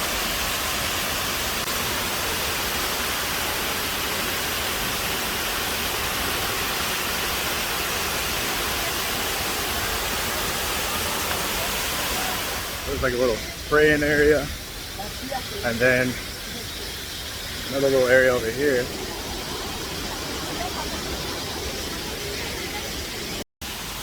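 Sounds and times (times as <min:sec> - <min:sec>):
waterfall rushing hiss: 0:00.0 - 0:24.0.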